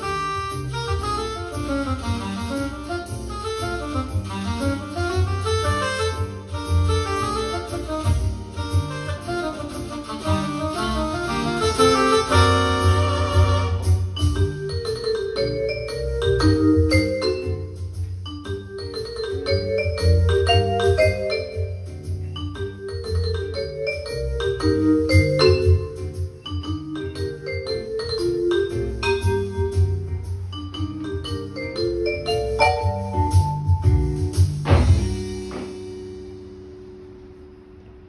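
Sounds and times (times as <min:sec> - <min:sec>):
electronic keyboard swing music: 0:00.0 - 0:38.0.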